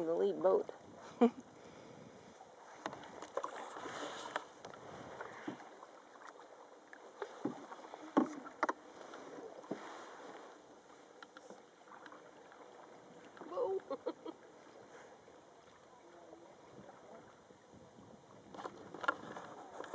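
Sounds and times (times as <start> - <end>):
paddle strokes swishing water: 0.0 - 19.9.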